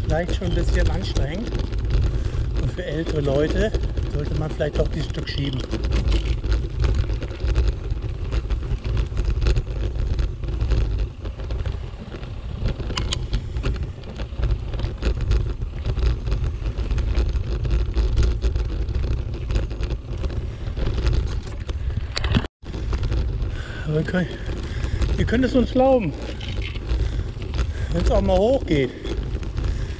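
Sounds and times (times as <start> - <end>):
bicycle rolling over dirt path: 0.0 - 29.9
small clicks and rattles: 0.0 - 29.9
wind buffeting microphone: 0.0 - 29.9.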